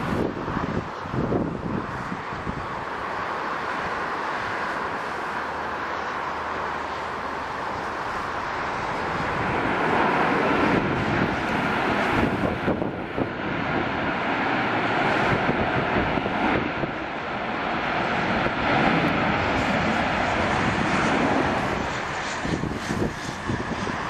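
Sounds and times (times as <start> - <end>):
jet airliner landing rumble: 0.0 - 24.0.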